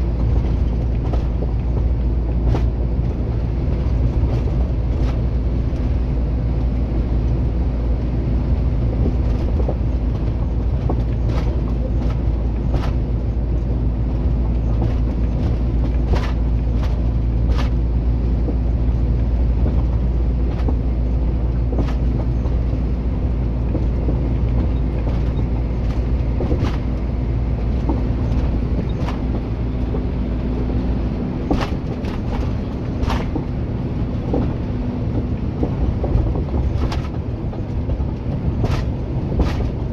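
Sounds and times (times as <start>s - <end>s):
road noise: 0.0s - 39.9s
truck diesel engine rumble: 0.0s - 39.9s.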